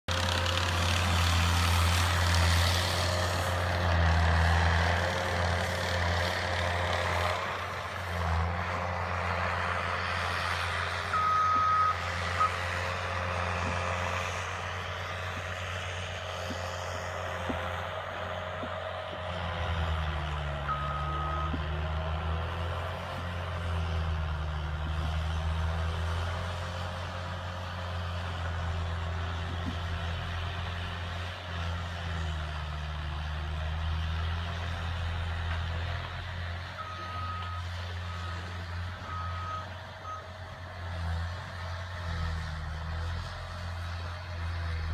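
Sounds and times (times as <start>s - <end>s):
large vehicle engine humming: 0.0s - 44.9s.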